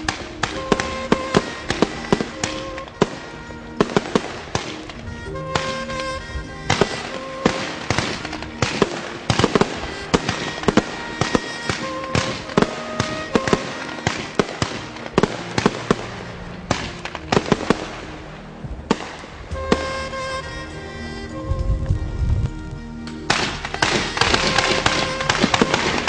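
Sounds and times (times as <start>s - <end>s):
fireworks shots and bursts: 0.0s - 20.6s, 23.3s - 26.0s
background music: 0.0s - 26.0s
fireworks crackling: 0.0s - 26.0s.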